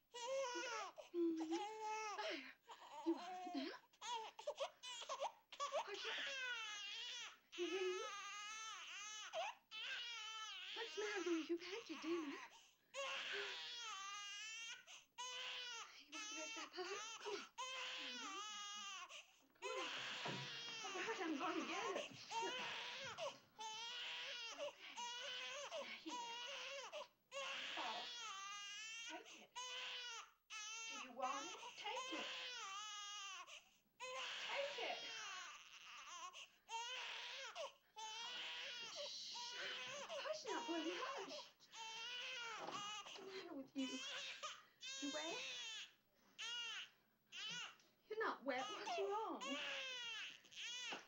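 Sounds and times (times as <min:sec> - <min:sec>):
infant crying: 0:00.1 - 0:43.2, 0:43.8 - 0:47.8, 0:48.5 - 0:51.0.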